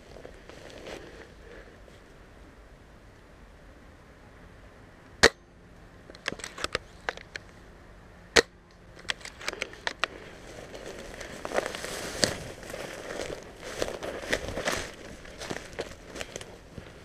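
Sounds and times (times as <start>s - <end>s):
grass and brush rustling: 0.0s - 3.8s, 4.4s - 17.0s.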